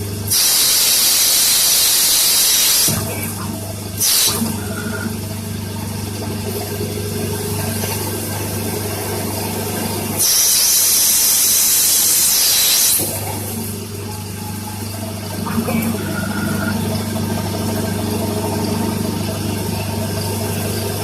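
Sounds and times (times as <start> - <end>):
lathe electric hum: 0.0 - 21.0.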